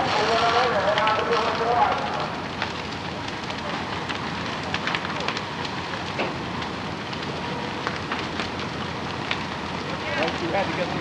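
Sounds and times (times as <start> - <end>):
building fire roaring: 0.0 - 11.0
fire crackling and popping: 0.0 - 11.0.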